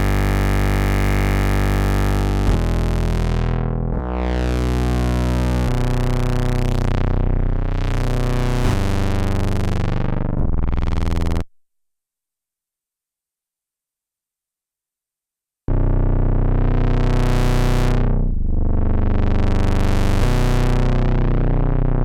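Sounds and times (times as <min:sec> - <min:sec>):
synthesizer chords: 0:00.0 - 0:11.4, 0:15.7 - 0:22.0.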